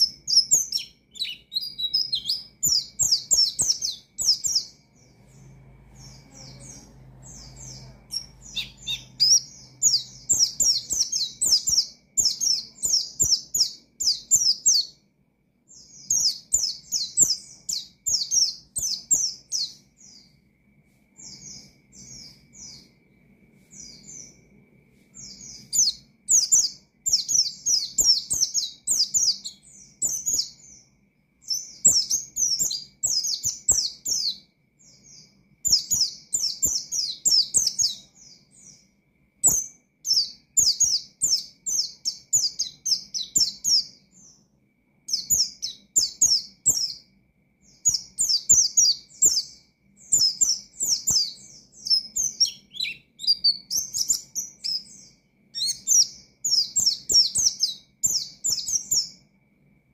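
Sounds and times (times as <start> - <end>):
white-eye bird singing: 0.0 - 59.9.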